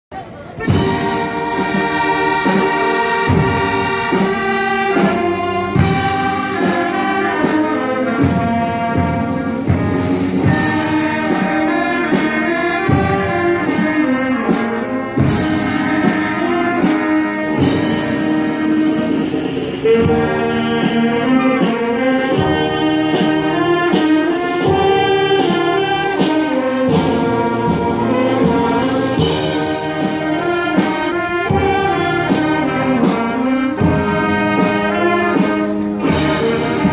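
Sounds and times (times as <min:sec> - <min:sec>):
wind band playing: 0:00.1 - 0:36.9
sharp percussion hits: 0:00.6 - 0:36.9.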